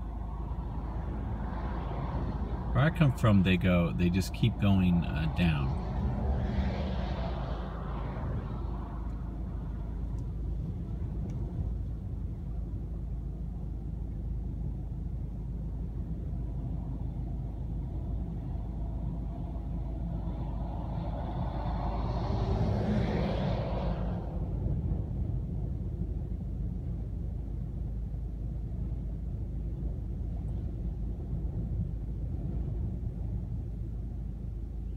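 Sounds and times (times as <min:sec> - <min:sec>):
wind buffeting car: 0:00.0 - 0:34.9.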